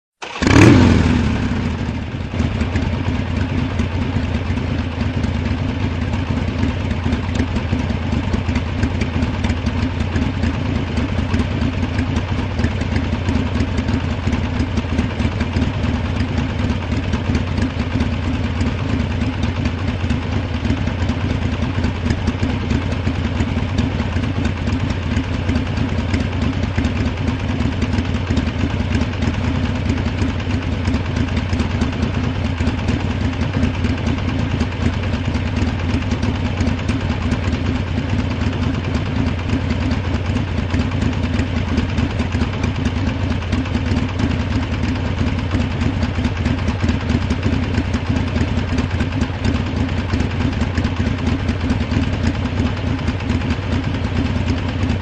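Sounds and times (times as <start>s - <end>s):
motorcycle engine idling: 0.2s - 55.0s.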